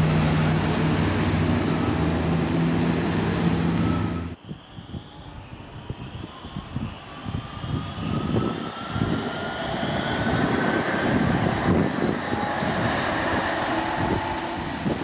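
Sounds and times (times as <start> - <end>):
rail and wheel rumble: 0.0 - 4.4, 6.6 - 15.0
electric tram traction whine: 0.0 - 15.0
wind buffeting microphone: 0.0 - 15.0.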